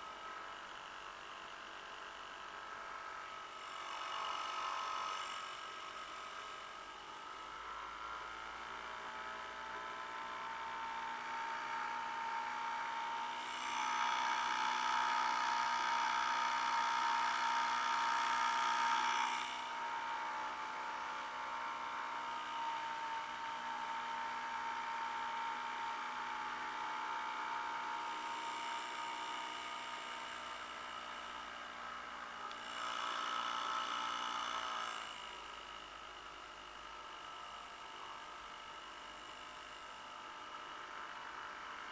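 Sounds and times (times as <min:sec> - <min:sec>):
outboard motor buzzing whine: 0:00.0 - 0:41.9.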